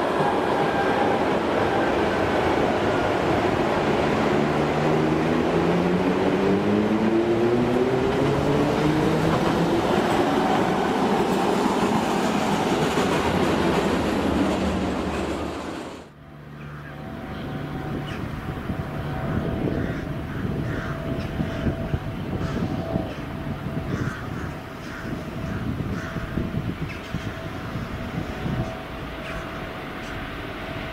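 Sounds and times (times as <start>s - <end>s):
train whine rising in pitch: 0.0s - 23.8s, 26.4s - 30.9s
train running noise: 0.0s - 30.9s.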